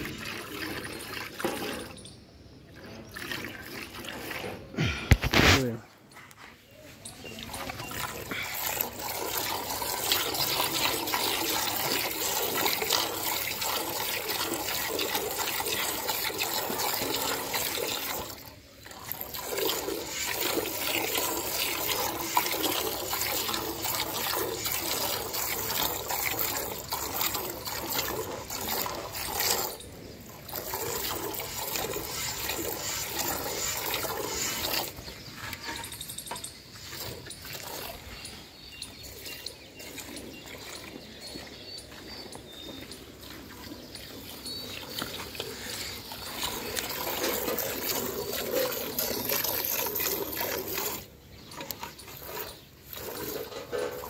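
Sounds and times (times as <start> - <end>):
milk squirting into a bucket: 0.0 - 2.0, 2.7 - 5.8, 7.2 - 54.0.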